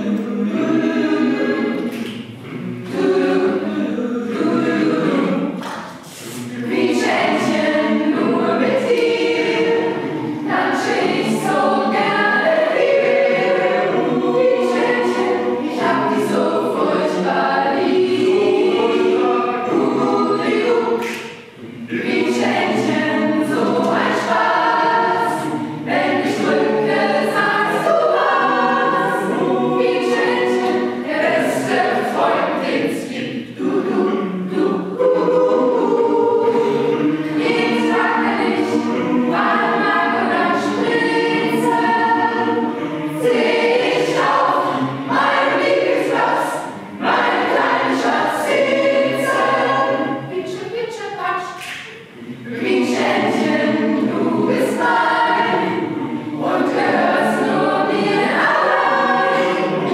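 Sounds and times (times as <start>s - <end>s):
mixed choir singing: 0.0s - 50.6s, 51.6s - 59.9s.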